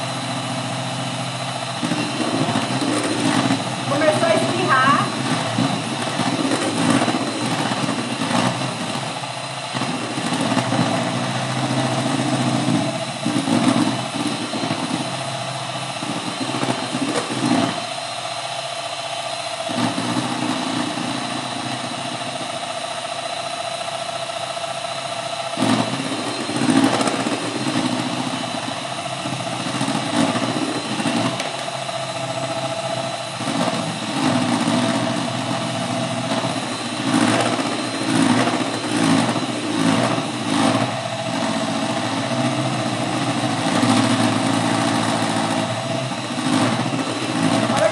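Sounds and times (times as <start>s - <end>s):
electric hand mixer whipping: 0.0s - 47.9s.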